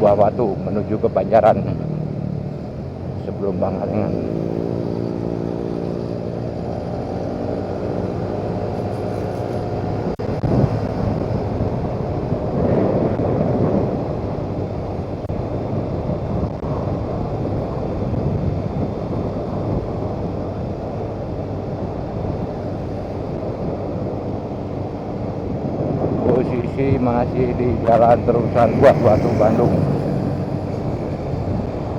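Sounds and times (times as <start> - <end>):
motorcycle engine running: 0.0 - 31.9
wind rumbling on microphone: 0.0 - 31.9.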